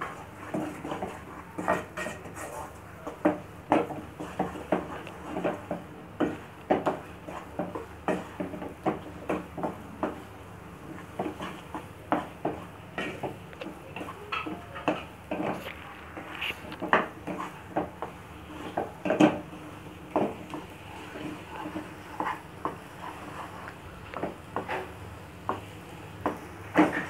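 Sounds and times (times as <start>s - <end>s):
wooden spatula scraping a pan: 0.0s - 27.0s.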